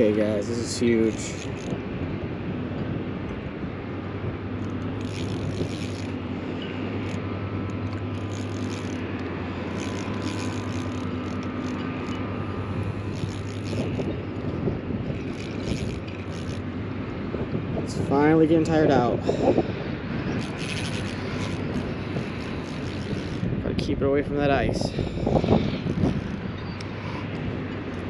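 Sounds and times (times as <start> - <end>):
wind on microphone: 0.0 - 28.0
low hum: 0.4 - 23.8.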